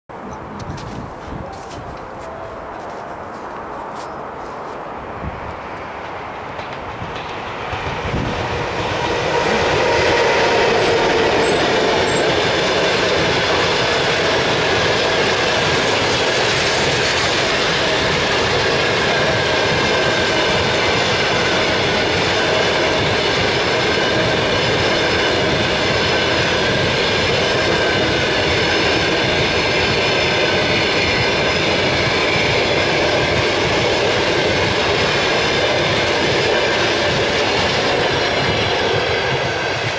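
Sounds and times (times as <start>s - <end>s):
train wheels rushing on rails: 0.1s - 39.9s.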